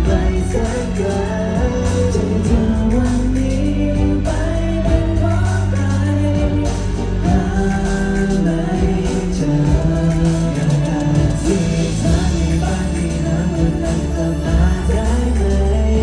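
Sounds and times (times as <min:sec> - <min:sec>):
male vocal group singing: 0:00.0 - 0:16.0
pop song over sound system: 0:00.0 - 0:16.0.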